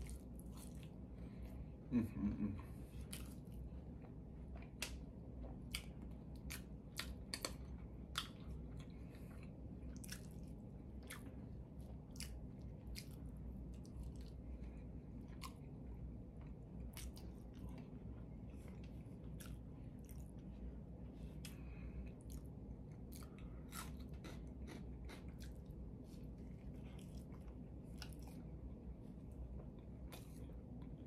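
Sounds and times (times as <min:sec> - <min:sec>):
chewing fries: 0:00.0 - 0:31.0.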